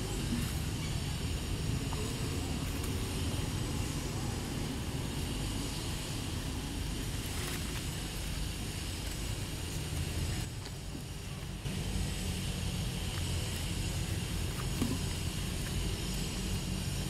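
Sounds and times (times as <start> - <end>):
hiss: 0.0 - 17.0.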